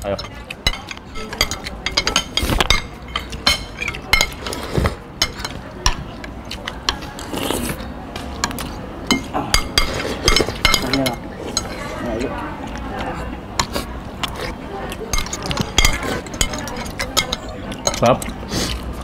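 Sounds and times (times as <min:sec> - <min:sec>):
cutlery clinking on plates: 0:00.0 - 0:07.3, 0:08.2 - 0:12.3, 0:12.9 - 0:18.8.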